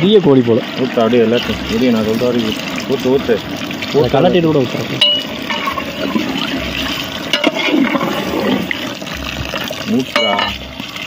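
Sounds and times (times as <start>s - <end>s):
water pouring into a pot: 0.0s - 11.0s.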